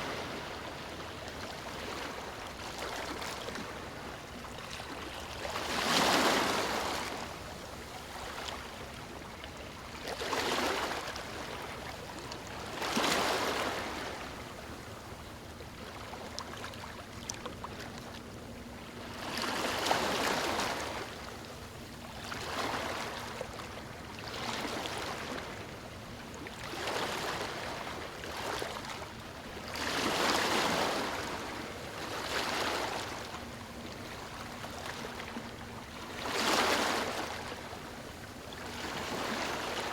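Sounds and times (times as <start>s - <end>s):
small waves on stony shore: 0.0s - 14.4s, 19.1s - 21.2s, 22.1s - 25.6s, 26.5s - 33.4s, 34.0s - 39.9s.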